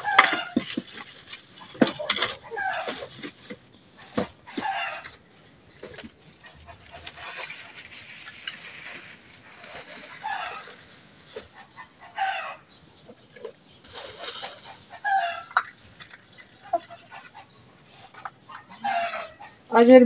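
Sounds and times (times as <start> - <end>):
dry twigs rustling and snapping: 0.0 - 12.1, 13.1 - 18.7
chicken clucking: 0.0 - 19.8.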